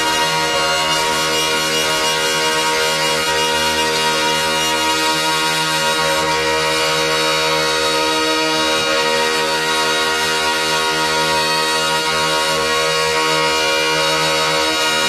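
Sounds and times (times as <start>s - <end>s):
droning sustained chord: 0.0s - 15.0s.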